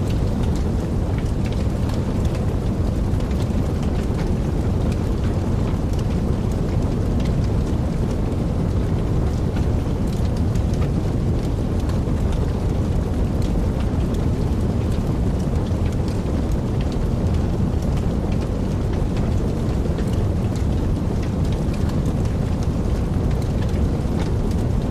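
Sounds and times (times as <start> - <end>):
fire crackling and popping: 0.0 - 24.9
wood fire flames rumbling: 0.0 - 24.9.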